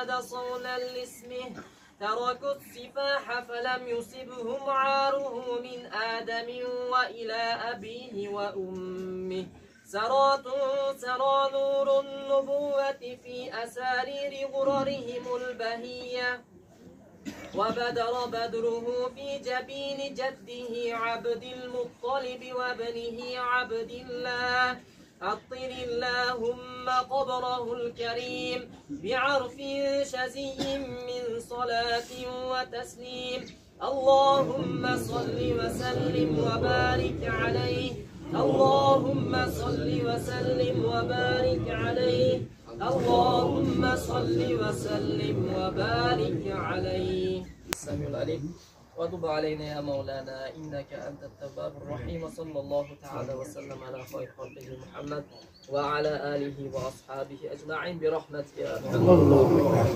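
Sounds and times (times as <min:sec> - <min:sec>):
man chanting: 0:00.0 - 0:16.4, 0:17.6 - 0:59.9.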